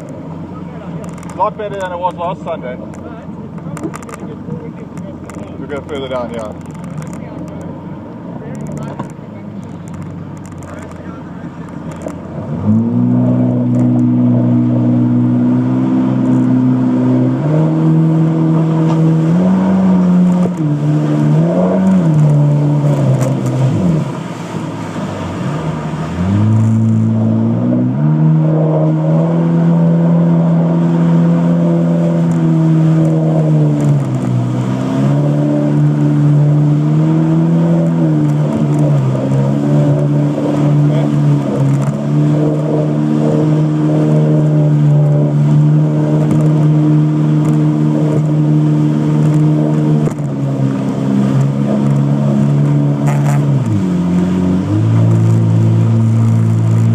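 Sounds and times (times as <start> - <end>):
jet ski engine revving: 0.0 - 56.9.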